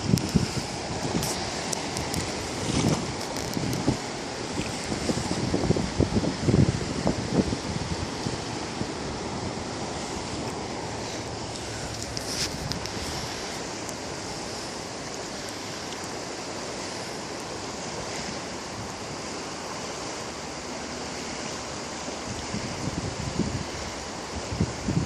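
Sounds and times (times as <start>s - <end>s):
steady rushing outdoor noise: 0.0s - 25.0s.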